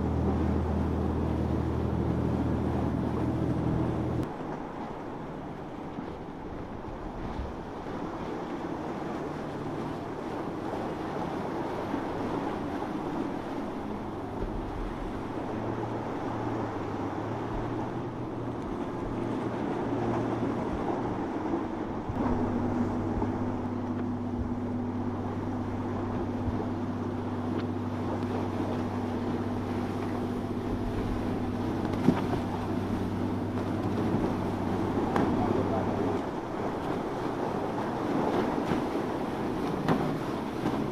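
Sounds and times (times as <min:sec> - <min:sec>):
outboard motors running at speed: 0:00.0 - 0:40.9
water rushing off hulls: 0:00.0 - 0:40.9.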